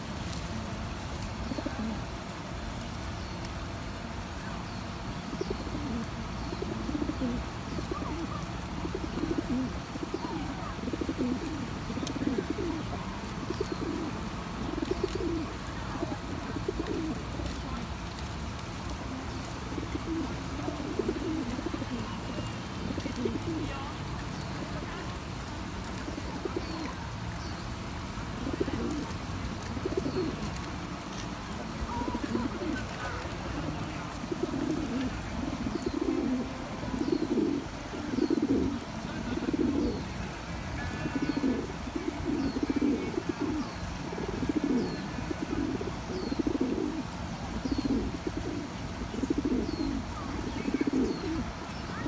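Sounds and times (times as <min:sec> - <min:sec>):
pigeons cooing: 0:00.0 - 0:52.0.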